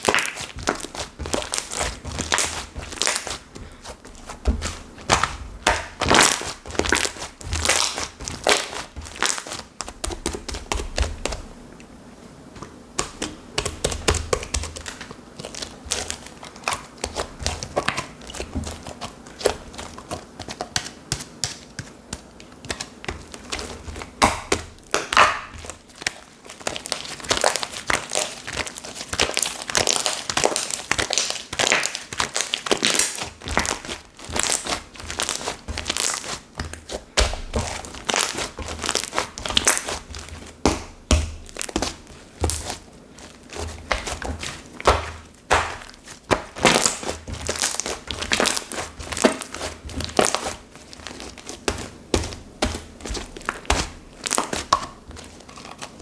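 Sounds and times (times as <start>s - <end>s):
slime crackling and popping: 0.0s - 11.5s, 13.0s - 56.0s.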